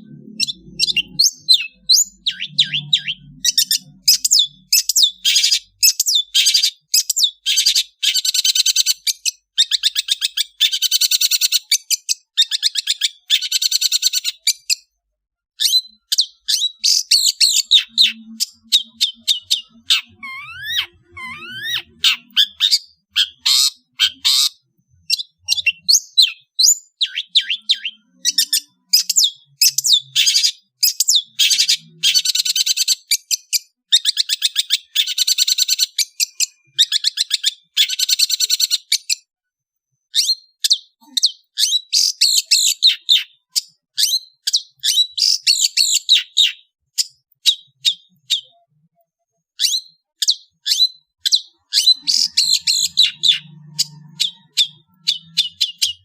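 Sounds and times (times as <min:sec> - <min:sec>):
bird singing sharp chirps and trills: 0:00.0 - 0:15.0, 0:15.6 - 0:39.3, 0:39.9 - 0:56.0.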